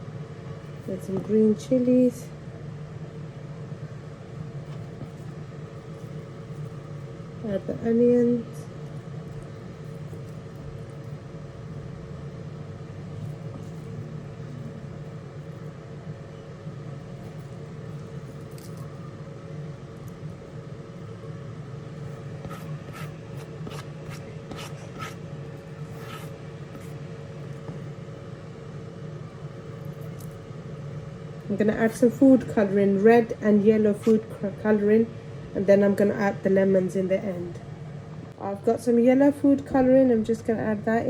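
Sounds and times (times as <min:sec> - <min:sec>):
kitchen background hum: 0:00.0 - 0:41.0.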